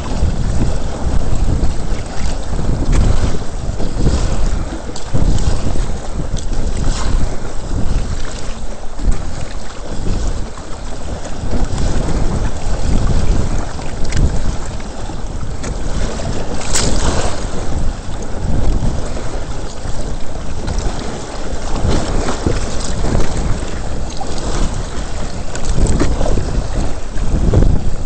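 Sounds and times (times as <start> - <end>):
water slapping against hulls: 0.0 - 28.0
wind buffeting microphone: 0.0 - 28.0.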